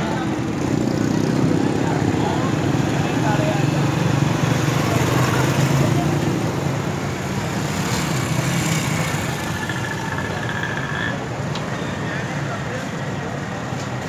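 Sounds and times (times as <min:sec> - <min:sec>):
busy street traffic: 0:00.0 - 0:14.0.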